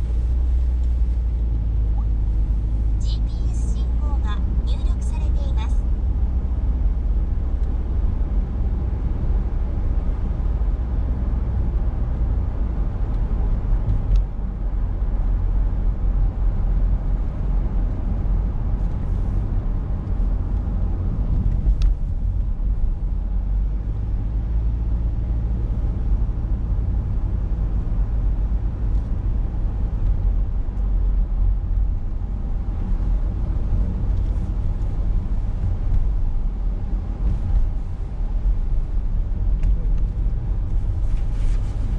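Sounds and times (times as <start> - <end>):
car engine and tyre rumble: 0.0 - 41.9.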